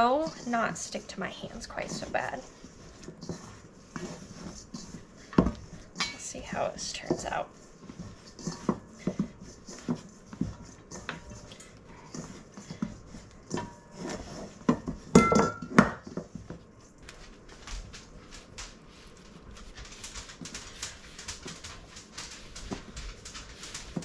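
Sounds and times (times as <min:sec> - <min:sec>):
dough kneading knocks and thumps: 0:00.0 - 0:24.0.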